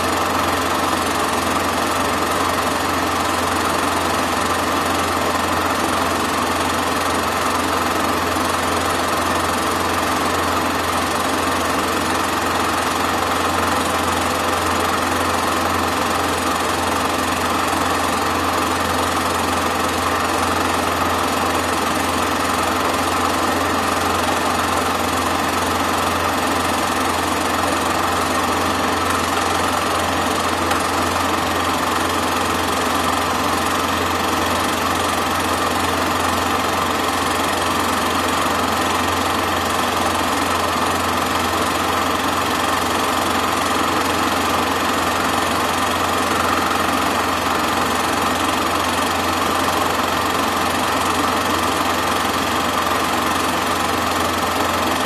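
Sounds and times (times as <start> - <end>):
film projector whirring and clattering: 0.0 - 55.0.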